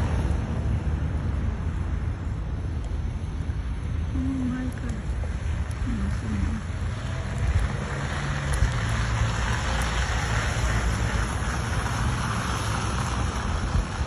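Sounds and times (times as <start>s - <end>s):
faint vehicle engine hum: 0.0s - 14.0s
steady low rumble: 0.0s - 14.0s.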